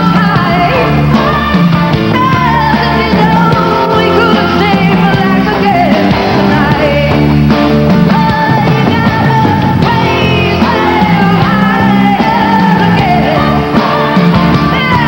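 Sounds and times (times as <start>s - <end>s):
woman singing: 0.0s - 7.4s, 8.0s - 15.0s
drums: 0.0s - 15.0s.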